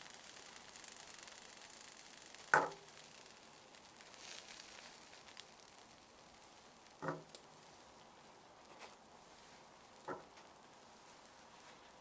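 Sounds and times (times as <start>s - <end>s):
faint rustles and ticks: 0.0s - 12.0s.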